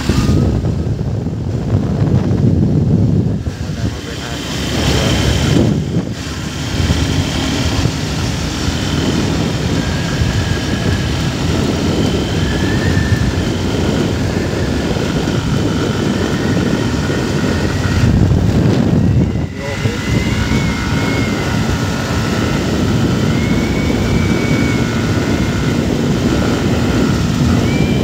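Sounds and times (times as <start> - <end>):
motorcycle engine cruising: 0.0 - 28.0
wind rushing over microphone: 0.0 - 28.0.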